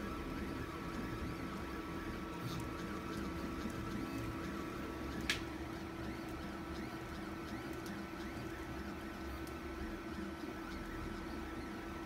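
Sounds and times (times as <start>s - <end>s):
steady fan hum: 0.0s - 12.0s.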